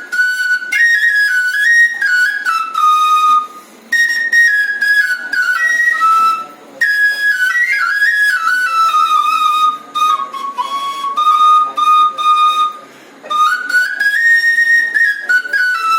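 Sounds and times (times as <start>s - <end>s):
bamboo flute melody: 0.0s - 15.9s.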